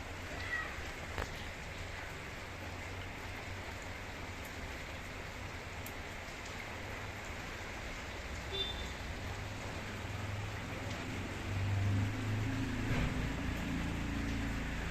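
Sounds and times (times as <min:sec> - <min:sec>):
heavy rain falling: 0:00.0 - 0:14.9.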